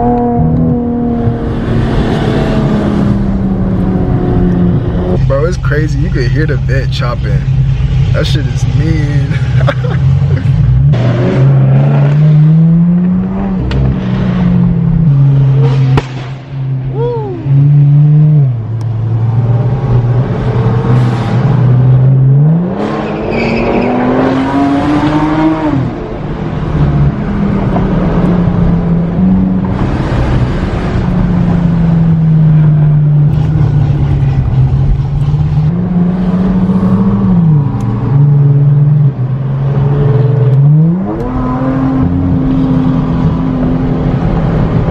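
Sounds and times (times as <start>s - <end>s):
car engine accelerating hard: 0.0s - 44.9s
other cars' exhausts: 0.0s - 44.9s.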